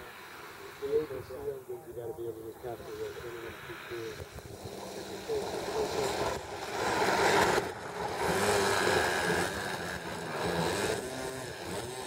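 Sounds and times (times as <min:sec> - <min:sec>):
model airplane engine high revs: 0:02.3 - 0:12.0.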